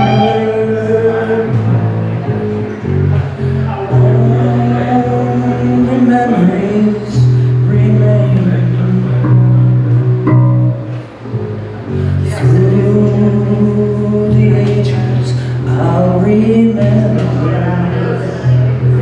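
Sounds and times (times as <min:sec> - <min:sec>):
electric bass guitar: 0:00.0 - 0:19.0.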